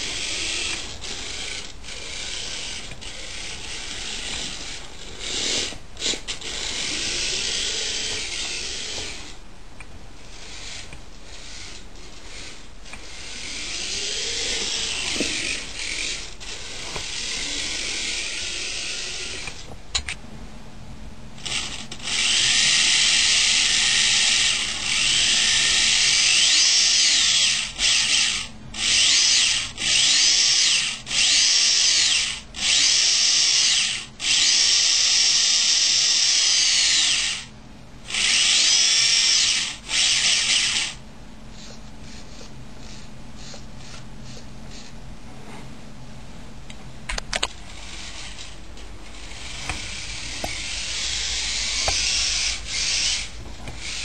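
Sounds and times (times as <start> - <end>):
rc car motor whining: 0.0 - 9.4, 10.2 - 20.1, 21.4 - 41.0, 41.6 - 44.9, 47.2 - 54.0.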